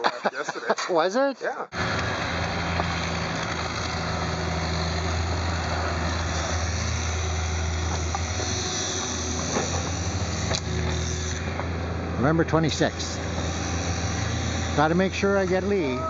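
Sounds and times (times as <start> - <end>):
excavator diesel engine running: 1.7 - 16.0.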